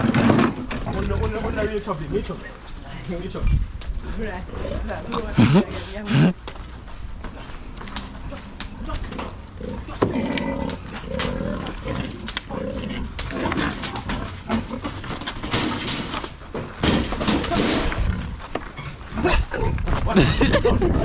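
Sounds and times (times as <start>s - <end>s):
dogs growling and snarling: 0.0s - 2.7s, 3.9s - 6.4s, 7.2s - 21.0s
rustling: 0.0s - 21.0s.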